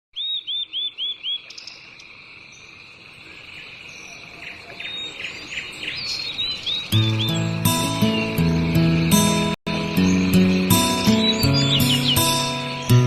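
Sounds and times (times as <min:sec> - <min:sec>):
birds chirping and whistling: 0:00.2 - 0:02.0, 0:03.6 - 0:13.0.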